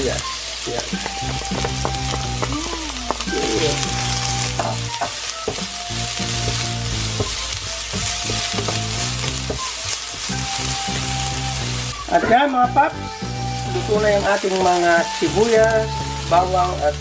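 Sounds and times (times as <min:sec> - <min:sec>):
food sizzling in hot oil: 0:00.0 - 0:17.0
wooden spatula scraping a wok: 0:00.0 - 0:17.0.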